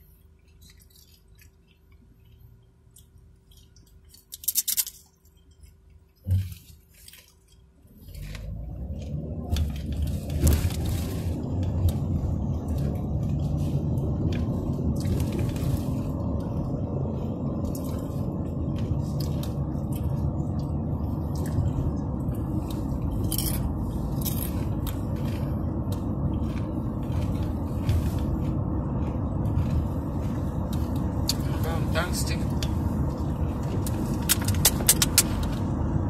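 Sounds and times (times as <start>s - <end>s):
chewing crunchy chips: 0.0s - 35.5s
car road and engine rumble: 0.0s - 36.0s.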